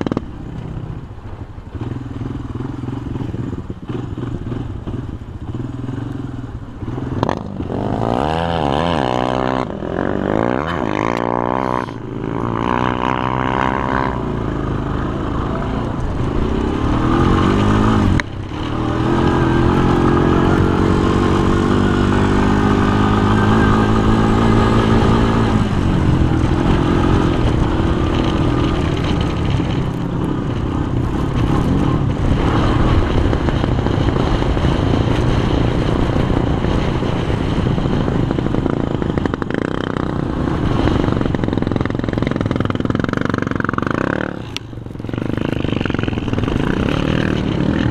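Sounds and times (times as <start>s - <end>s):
quad bike engine revving: 1.8s - 47.9s.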